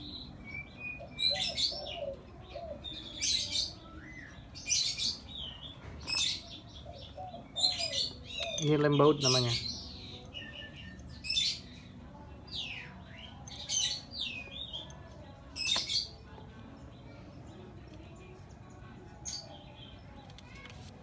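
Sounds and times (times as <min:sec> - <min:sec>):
birds chirping and whistling: 0:00.0 - 0:17.7, 0:18.4 - 0:20.2.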